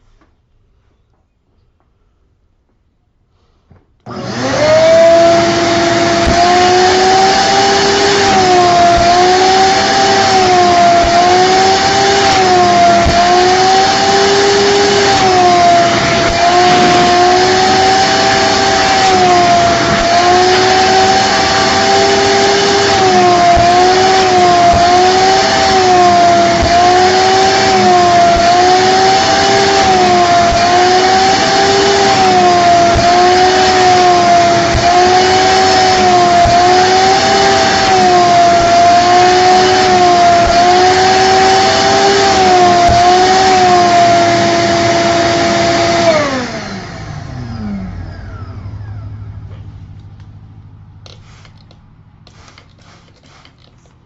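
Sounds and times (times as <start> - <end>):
vacuum cleaner running: 4.0 - 54.0.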